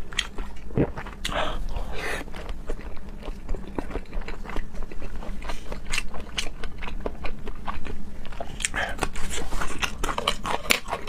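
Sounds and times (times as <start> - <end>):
wet chewing clicks and smacks: 0.0 - 11.0.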